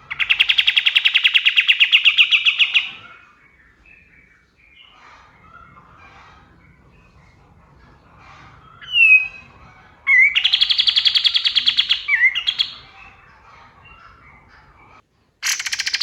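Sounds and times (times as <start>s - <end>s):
bird singing rattling trill: 0.0s - 16.0s
faint chirping: 0.0s - 16.0s.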